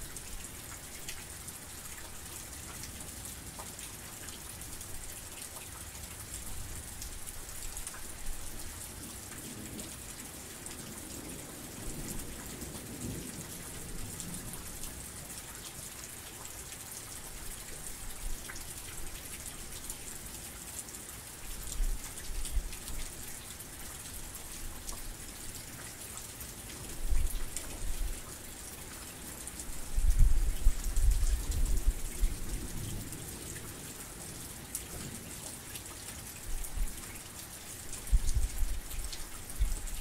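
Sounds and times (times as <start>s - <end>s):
heavy rain pattering: 0.0s - 40.0s.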